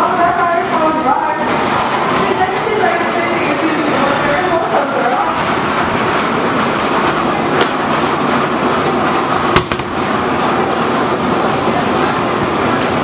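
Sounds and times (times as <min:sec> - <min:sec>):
roller coaster train mechanical noise: 0:00.0 - 0:13.0.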